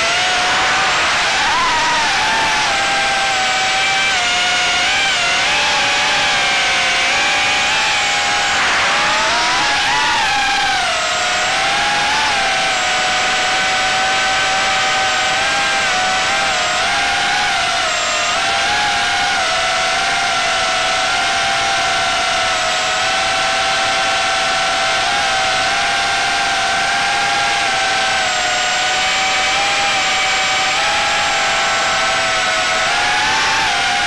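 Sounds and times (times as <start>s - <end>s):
small electric motor whining: 0.0s - 34.0s.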